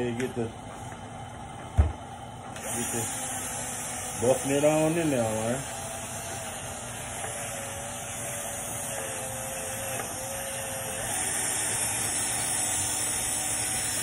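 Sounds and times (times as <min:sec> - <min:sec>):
cordless drill motor whine: 0:02.5 - 0:14.0.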